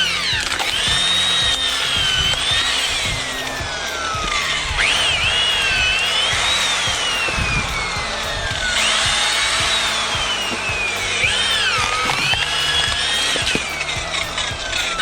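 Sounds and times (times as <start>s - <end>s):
machine motor whining under load: 0.0s - 15.0s.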